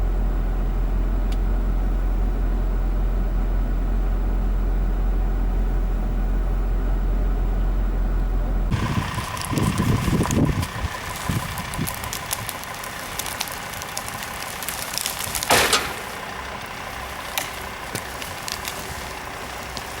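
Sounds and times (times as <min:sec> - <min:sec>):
engine with uneven low pulses: 0:00.0 - 0:20.0
vehicle engine rumble: 0:00.0 - 0:20.0.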